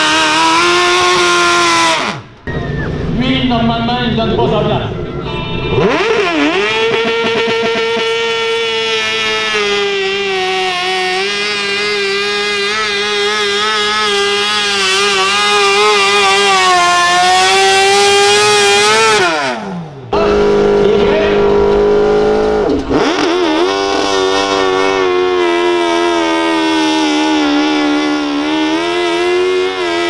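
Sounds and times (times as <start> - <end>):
tractor engines revving under load: 0.0 - 30.0.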